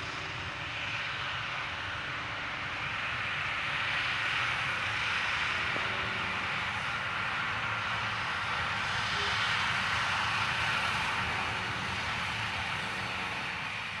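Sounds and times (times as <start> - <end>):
diesel train rumbling past: 0.0 - 14.0.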